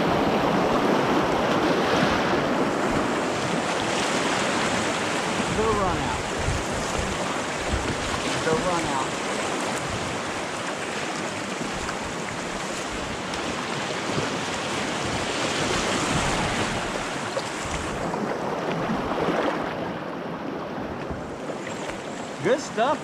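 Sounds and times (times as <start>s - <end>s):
creek rapids roaring: 0.0s - 23.0s.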